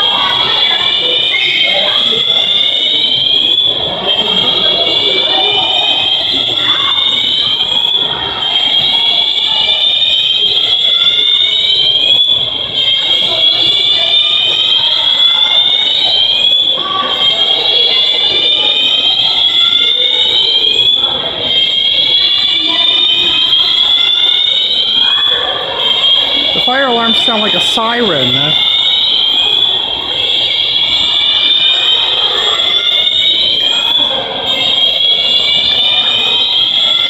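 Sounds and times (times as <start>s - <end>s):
whooping fire alarm siren: 0.0s - 37.0s.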